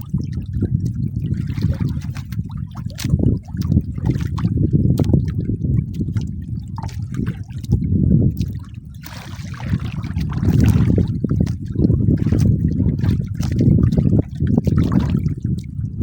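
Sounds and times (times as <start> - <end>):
low uneven rumble: 0.0 - 16.0
water lapping against boat hull: 0.0 - 16.0.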